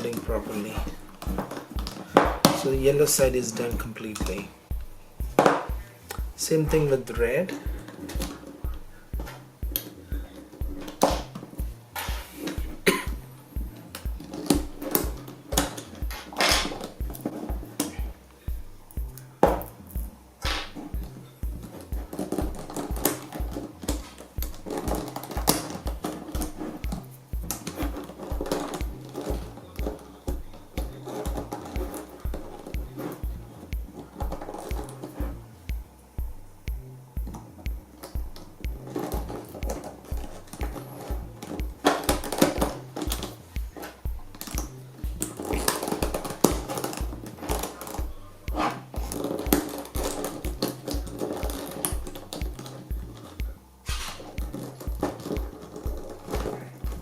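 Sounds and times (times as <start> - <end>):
background music with deep beat: 0.0 - 57.0.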